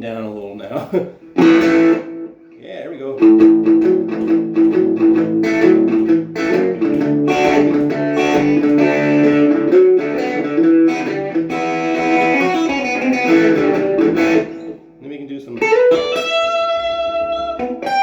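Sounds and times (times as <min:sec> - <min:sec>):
overdriven electric guitar: 0:01.2 - 0:02.5, 0:03.2 - 0:18.0.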